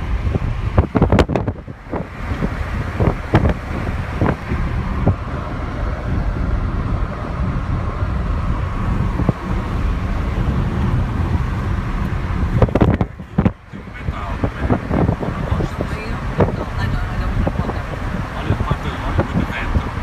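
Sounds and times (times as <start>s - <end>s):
air rushing through open window: 0.0s - 20.0s
road and wind noise inside car: 0.0s - 20.0s.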